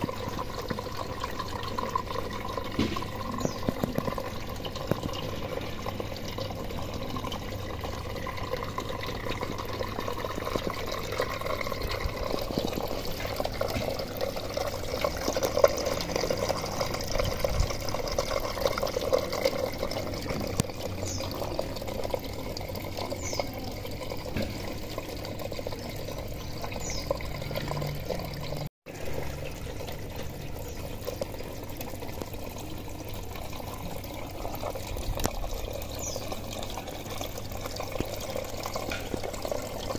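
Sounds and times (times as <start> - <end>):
water trickling through pipes: 0.0 - 39.9.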